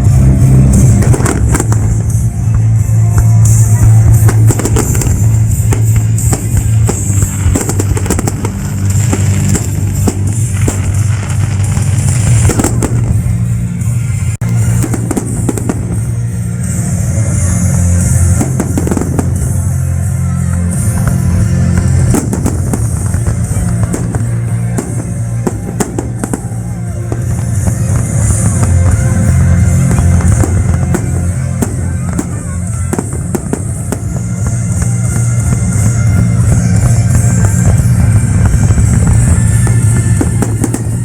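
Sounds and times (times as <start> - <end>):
fireworks bangs: 0.0 - 41.0
music with heavy bass and drums: 0.0 - 41.0.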